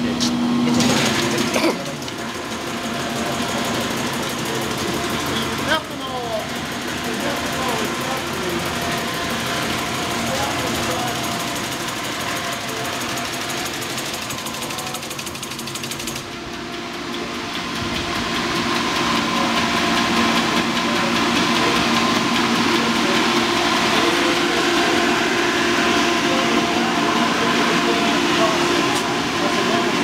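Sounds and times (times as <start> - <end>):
pump motors humming: 0.0 - 30.0.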